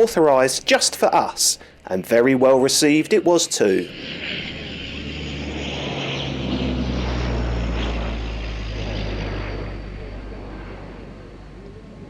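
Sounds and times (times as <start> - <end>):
turboprop airplane propeller hum: 0.0 - 12.0.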